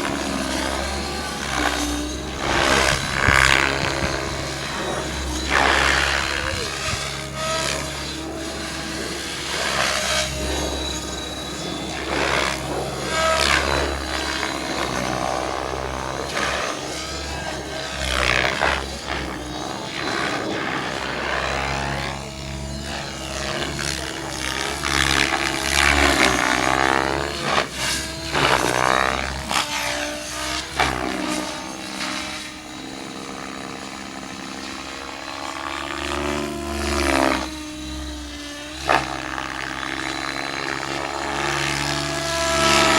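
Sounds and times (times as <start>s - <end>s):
electric motor whining: 0.0s - 42.9s
rotor blades swishing: 0.0s - 42.9s.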